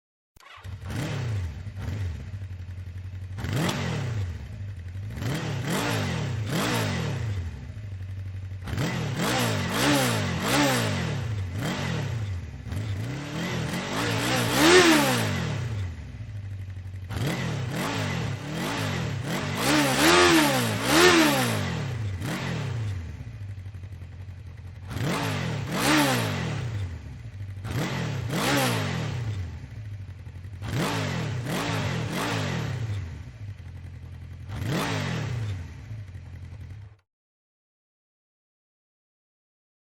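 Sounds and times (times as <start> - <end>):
engine revving over idle: 0.4 - 37.0.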